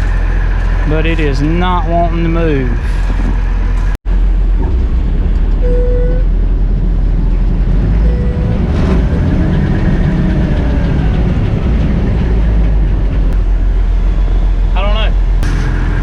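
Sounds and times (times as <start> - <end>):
combine harvester rumbling: 0.0 - 16.0.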